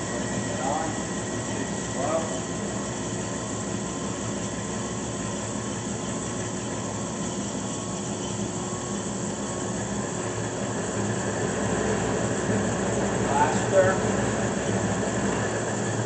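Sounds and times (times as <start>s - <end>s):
band saw motor hum: 0.0s - 16.0s.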